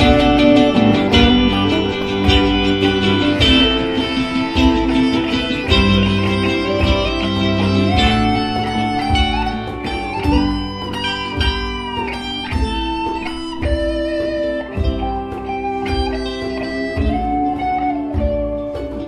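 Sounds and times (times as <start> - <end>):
electric guitars: 0.0 - 19.0
hand drums: 0.0 - 19.0
keyboard: 0.0 - 19.0.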